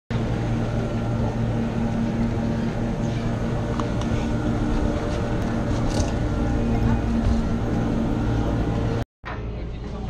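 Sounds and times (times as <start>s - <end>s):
machinery humming: 0.1s - 10.0s.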